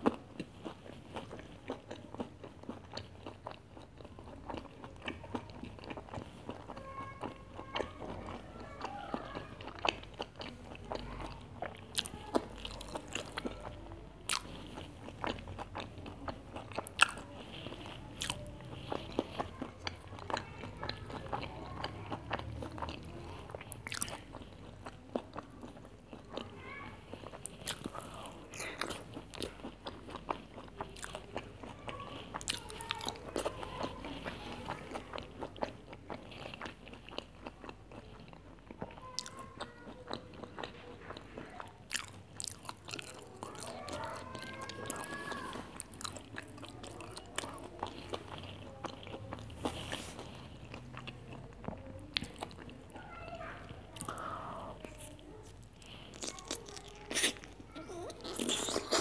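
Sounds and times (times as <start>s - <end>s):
chewing with crunches: 0.0s - 59.0s.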